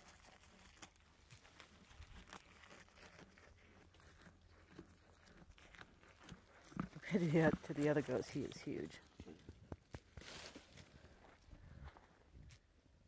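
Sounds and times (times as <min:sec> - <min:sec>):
goat chewing leaves: 0:00.0 - 0:12.6.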